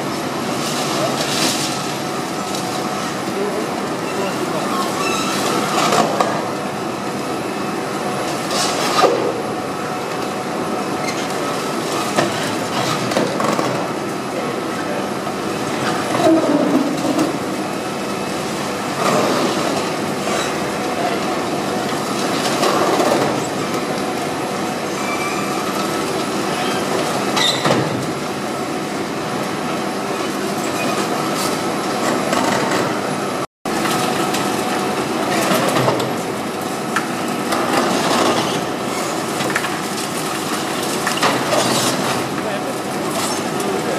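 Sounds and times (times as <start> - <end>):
excavator engine and hydraulics: 0.0 - 43.9.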